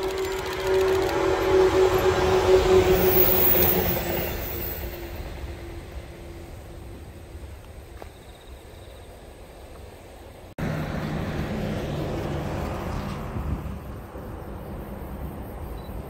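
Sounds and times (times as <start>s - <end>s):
electric locomotive rumble and hum: 0.0s - 16.0s
passing train rumble: 0.0s - 16.0s.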